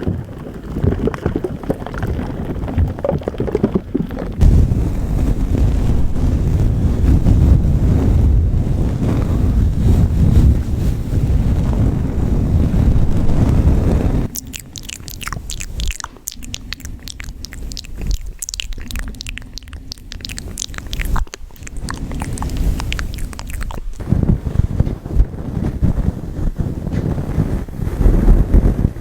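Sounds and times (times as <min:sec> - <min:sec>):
crisp crackling and crunching clicks: 0:00.0 - 0:26.0.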